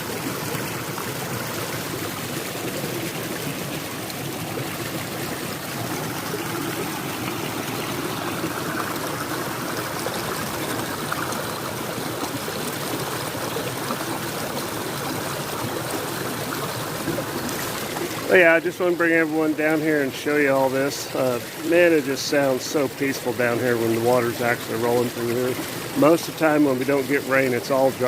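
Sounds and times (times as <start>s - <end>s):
stream splashing over rocks: 0.0s - 28.0s.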